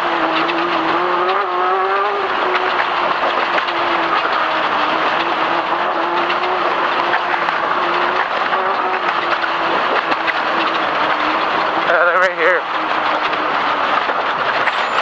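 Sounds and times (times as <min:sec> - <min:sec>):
chassis knocks and rattles: 0:00.0 - 0:15.0
race car engine running: 0:00.0 - 0:15.0.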